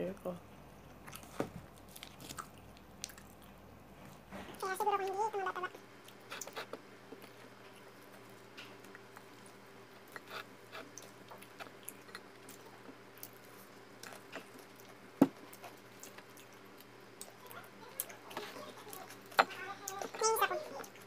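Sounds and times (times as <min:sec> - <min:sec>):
faint steady hum: 0:00.0 - 0:21.0
chewing: 0:00.2 - 0:21.0.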